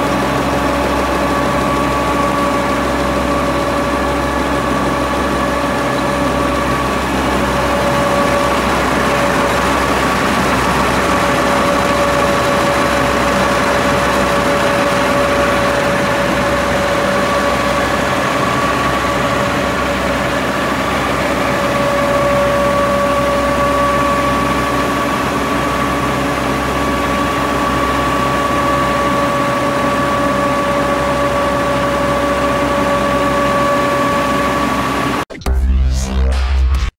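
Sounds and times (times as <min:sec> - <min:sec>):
constant machine whine: 0:00.0 - 0:36.9
printing press drone: 0:00.0 - 0:36.9.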